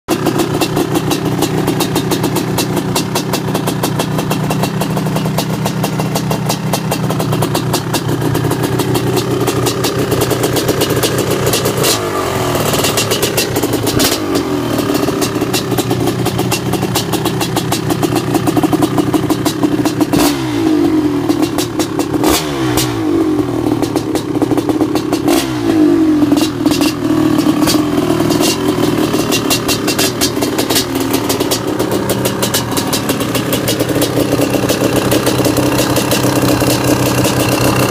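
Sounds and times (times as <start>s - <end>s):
motorcycle engine idling and revving: 0.1s - 37.9s.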